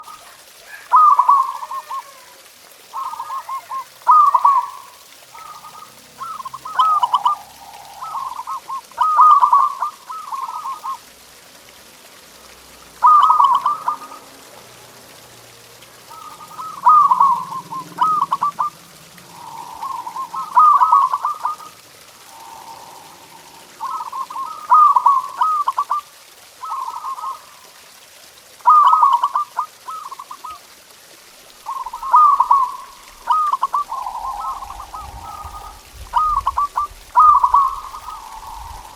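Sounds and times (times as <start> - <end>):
doves cooing: 0.0 - 11.3, 12.9 - 28.0, 28.6 - 30.8, 31.4 - 38.9.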